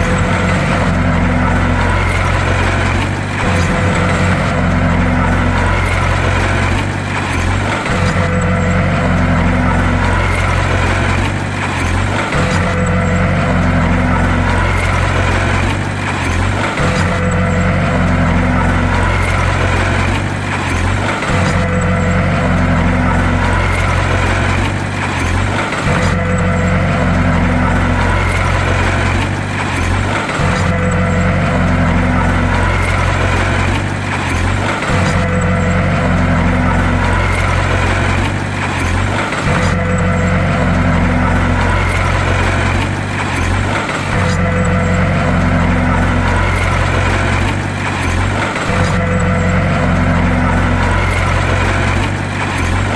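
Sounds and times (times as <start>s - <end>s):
heavy diesel engine droning: 0.0s - 52.9s.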